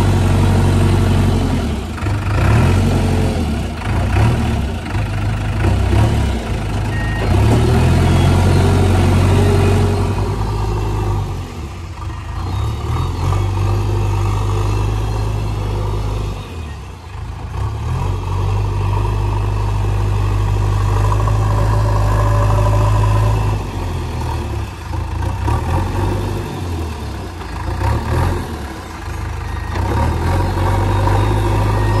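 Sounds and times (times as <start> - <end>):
diesel engine under load: 0.0 - 32.0.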